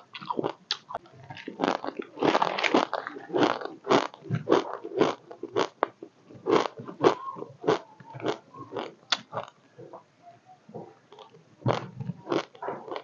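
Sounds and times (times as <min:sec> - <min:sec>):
person chewing crunchy chips: 0:00.0 - 0:09.5, 0:11.2 - 0:13.0.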